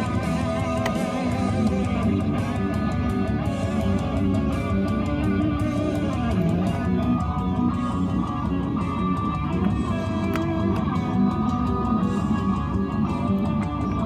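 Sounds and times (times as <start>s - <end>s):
guitar-driven music: 0.0s - 14.0s.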